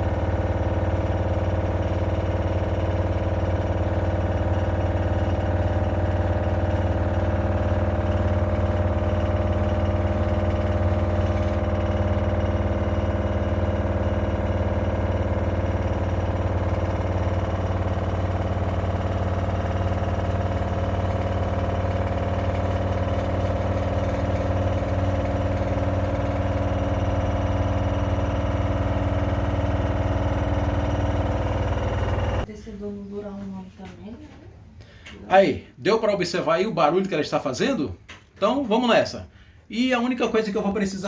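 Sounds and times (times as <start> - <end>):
washer-dryer spin cycle humming: 0.0 - 41.0.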